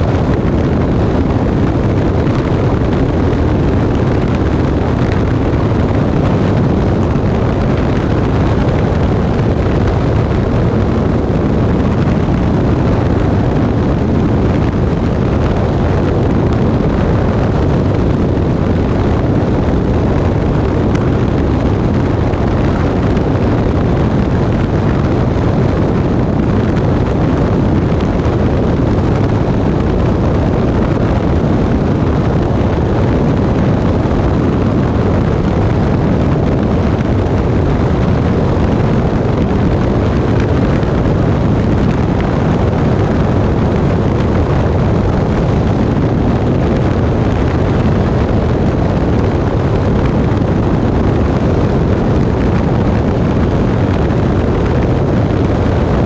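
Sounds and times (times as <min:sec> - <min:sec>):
airplane engine running: 0:00.0 - 0:56.0
rush of wind over camera: 0:00.0 - 0:56.0.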